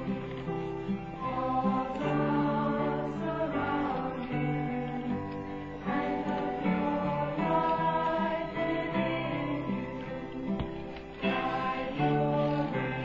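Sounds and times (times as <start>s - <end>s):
acoustic guitar: 0.0s - 13.0s
person singing: 1.2s - 10.5s, 11.2s - 13.0s.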